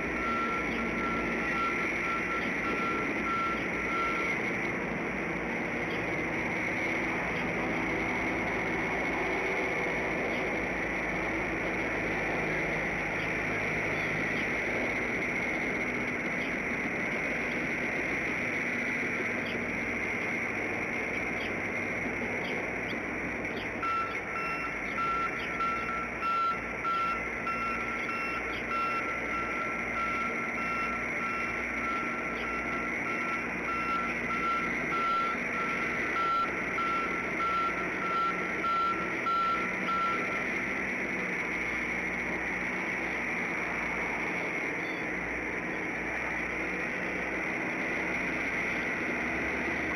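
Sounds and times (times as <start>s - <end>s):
evenly repeated beeps: 0.0s - 49.9s.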